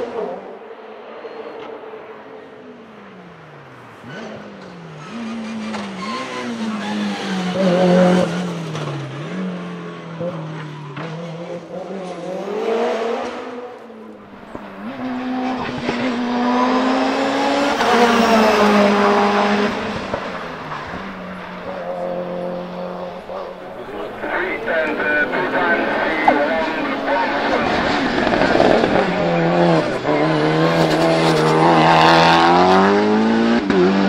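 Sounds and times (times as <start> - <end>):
race car engines revving and shifting: 0.0 - 34.0.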